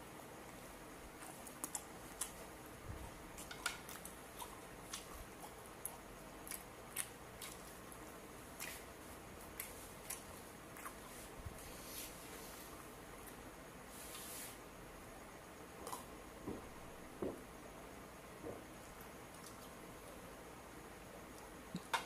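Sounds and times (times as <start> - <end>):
low room hiss: 0.0 - 22.0.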